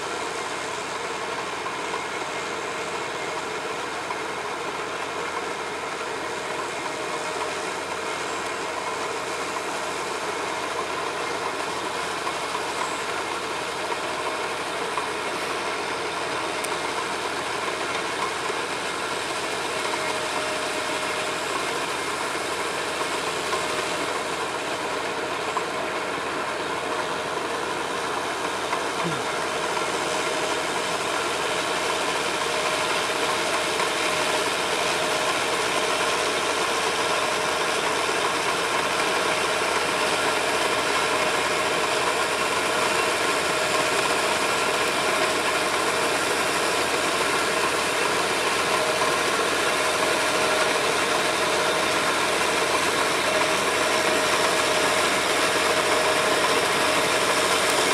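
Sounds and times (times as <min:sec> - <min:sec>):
crawler tractor engine rattling: 0:00.0 - 0:57.9.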